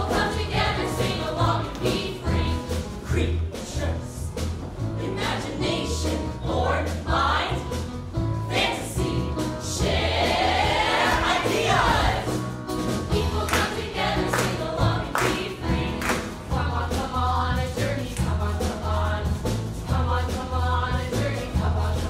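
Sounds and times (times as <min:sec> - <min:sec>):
choir singing: 0:00.0 - 0:04.0, 0:05.0 - 0:07.8, 0:08.4 - 0:12.5, 0:13.1 - 0:22.0.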